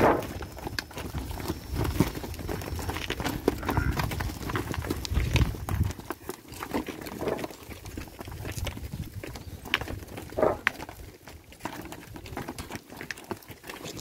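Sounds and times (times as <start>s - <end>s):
cattle hooves on stony dirt: 0.0s - 14.0s.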